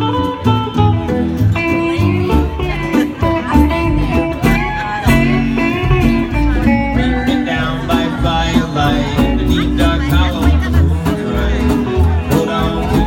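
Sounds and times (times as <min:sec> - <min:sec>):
electric guitar lead: 0:00.0 - 0:13.0
strummed acoustic guitar: 0:00.0 - 0:13.0.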